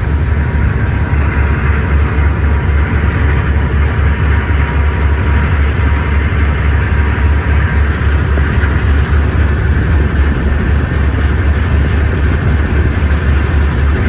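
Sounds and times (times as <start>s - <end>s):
rushing water: 0.0s - 14.0s
ship engine low rumble: 0.0s - 14.0s
wind: 0.0s - 14.0s.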